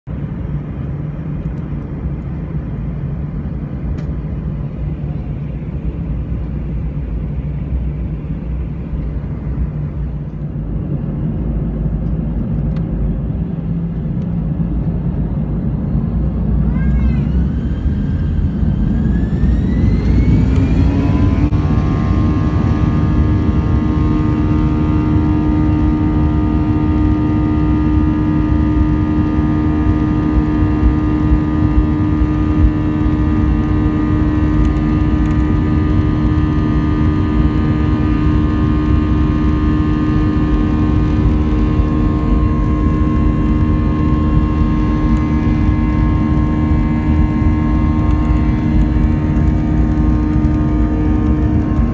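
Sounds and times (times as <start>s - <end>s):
jet engines spooling up: 0.2s - 51.9s.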